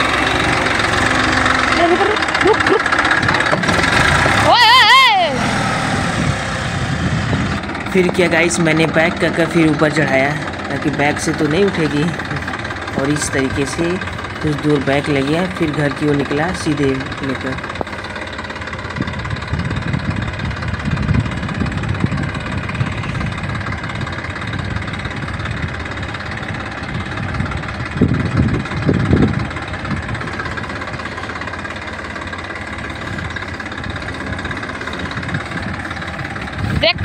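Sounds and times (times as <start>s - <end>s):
diesel tractor running: 0.0s - 37.0s.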